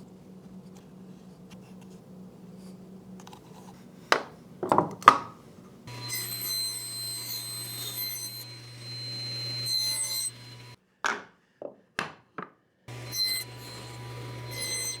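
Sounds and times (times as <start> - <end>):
low workshop hum: 0.0 - 10.8, 12.9 - 15.0.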